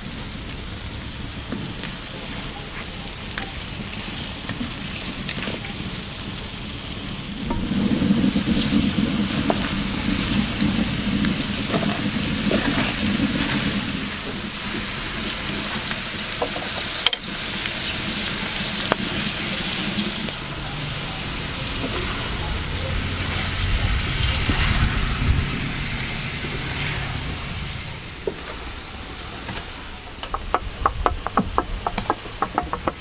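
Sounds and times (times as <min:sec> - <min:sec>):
low rumble: 0:00.0 - 0:16.3, 0:18.6 - 0:30.2
food sizzling in a pan: 0:00.0 - 0:29.1
wood fire crackling: 0:00.0 - 0:33.0.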